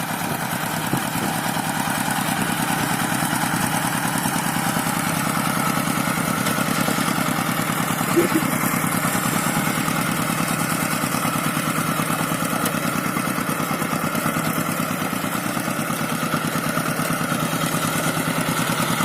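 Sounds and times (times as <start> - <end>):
diesel engine chugging: 0.0 - 19.0.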